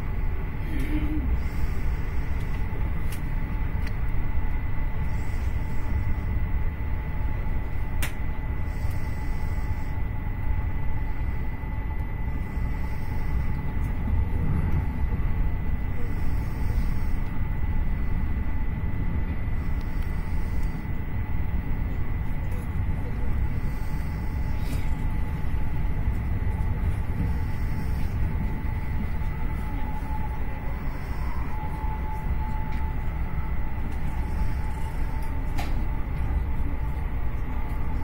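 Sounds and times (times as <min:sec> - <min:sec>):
faint high whine: 0:00.0 - 0:38.0
train rumble inside carriage: 0:00.0 - 0:38.0.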